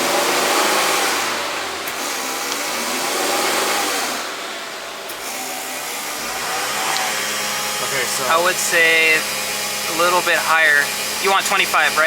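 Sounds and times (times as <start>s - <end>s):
car engine at held revs: 0.0s - 12.0s.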